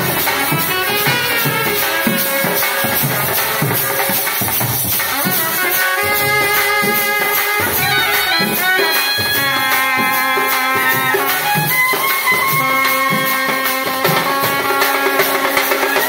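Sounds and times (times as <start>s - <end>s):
barrel drum steady beat: 0.0s - 16.0s
clarinet melody: 0.0s - 16.0s
trumpet melody: 0.0s - 16.0s.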